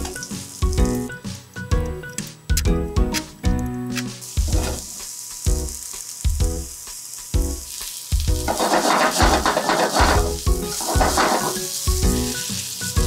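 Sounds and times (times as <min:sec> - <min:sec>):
root sizzling in frying pan: 0:00.0 - 0:02.3, 0:03.5 - 0:13.0
background music with beat: 0:00.0 - 0:08.5, 0:09.2 - 0:13.0.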